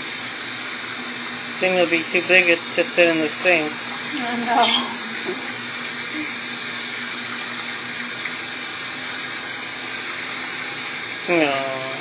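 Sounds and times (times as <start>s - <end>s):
faucet running into sink: 0.0s - 12.0s.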